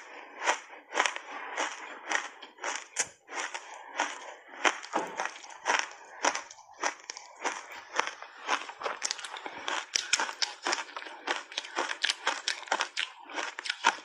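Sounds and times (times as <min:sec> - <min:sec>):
ice crunching between teeth: 0:00.0 - 0:14.0.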